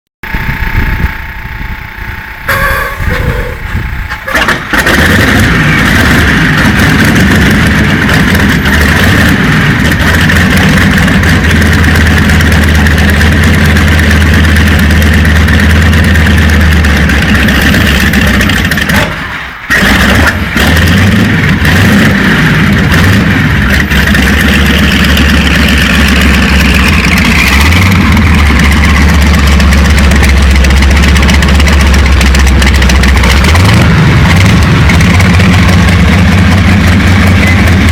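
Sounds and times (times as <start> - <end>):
aircraft radial engine running: 0.2 - 37.9.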